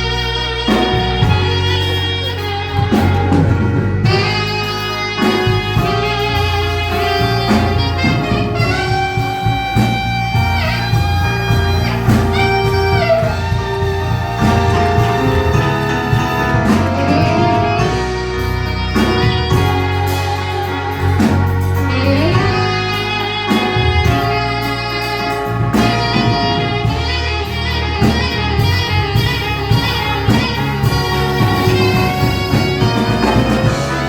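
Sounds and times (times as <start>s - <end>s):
bass line: 0.0s - 34.0s
lead instrument long bending notes: 0.0s - 34.0s.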